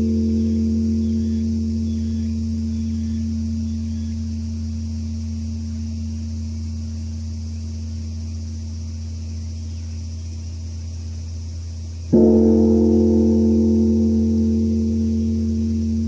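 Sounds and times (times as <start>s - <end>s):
bronze bell humming deeply: 0.0s - 16.0s.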